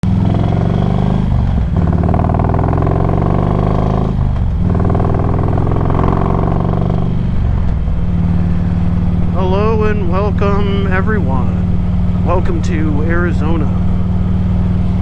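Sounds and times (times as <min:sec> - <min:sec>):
motorcycle engine while riding: 0:00.0 - 0:15.0.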